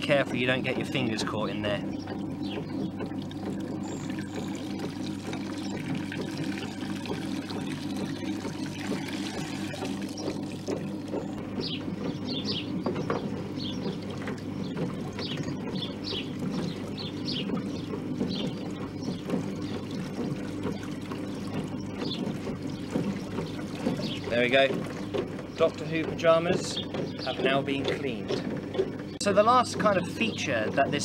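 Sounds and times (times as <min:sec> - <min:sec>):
washing machine motor hum: 0:00.0 - 0:31.0
water pouring and trickling: 0:02.1 - 0:12.1, 0:13.8 - 0:31.0.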